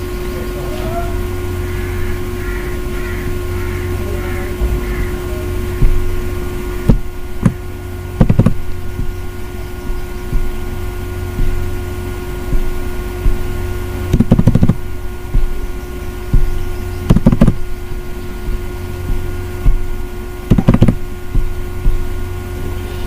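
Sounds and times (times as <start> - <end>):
faint tones: 0.0 - 23.0
steady low hum: 0.0 - 23.0.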